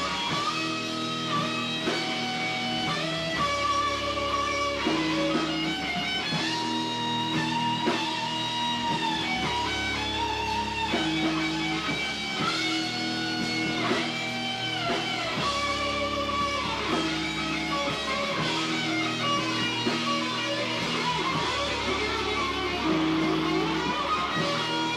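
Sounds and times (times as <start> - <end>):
electric guitar chords: 0.0 - 24.9
rock band playing live: 0.0 - 24.9.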